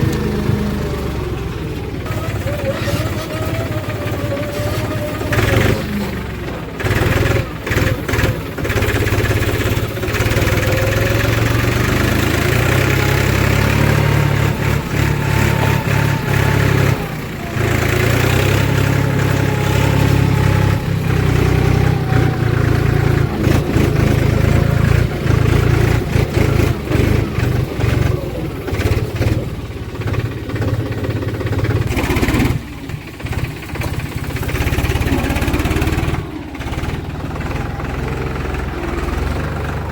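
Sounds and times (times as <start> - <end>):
backhoe diesel engine under load: 0.0 - 39.9.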